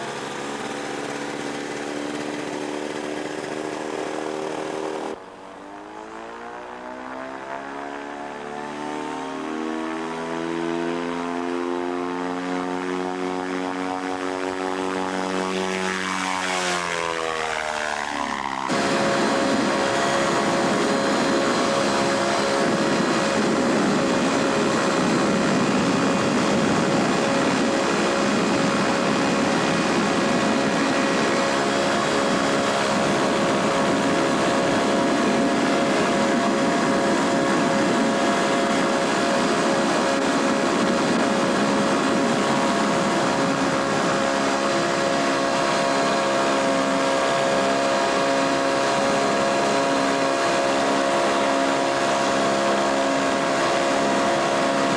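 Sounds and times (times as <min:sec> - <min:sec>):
ultralight aircraft engine droning: 0:00.0 - 0:54.9.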